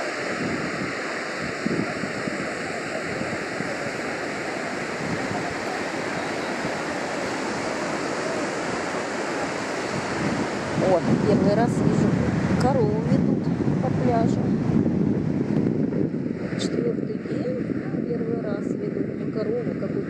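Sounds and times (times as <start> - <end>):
surf washing up beach: 0.0 - 20.0
wind on microphone: 0.0 - 20.0.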